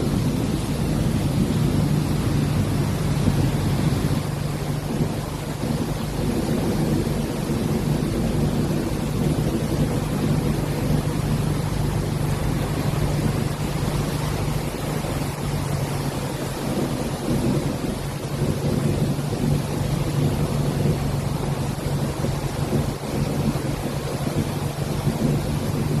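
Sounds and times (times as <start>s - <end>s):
low engine-like hum: 0.0s - 26.0s
steady rushing noise: 0.0s - 26.0s.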